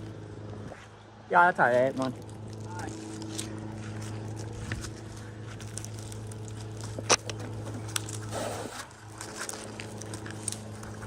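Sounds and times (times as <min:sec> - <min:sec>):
low hum: 0:00.0 - 0:11.0
knocks and crackles on tree trunk: 0:01.8 - 0:11.0.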